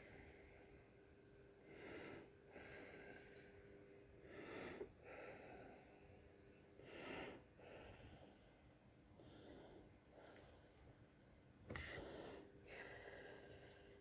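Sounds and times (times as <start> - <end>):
breathing close to microphone: 1.6 - 11.0, 11.7 - 14.0.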